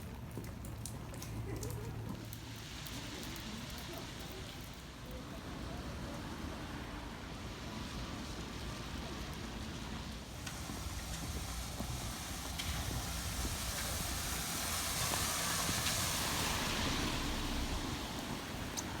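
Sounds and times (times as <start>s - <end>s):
passing vehicle hiss and rumble: 0.0s - 19.0s
rain falling: 0.0s - 19.0s.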